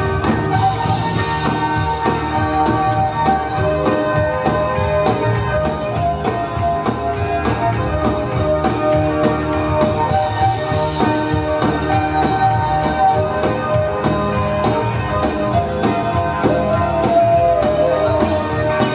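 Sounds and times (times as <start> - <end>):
live band music: 0.0 - 18.9.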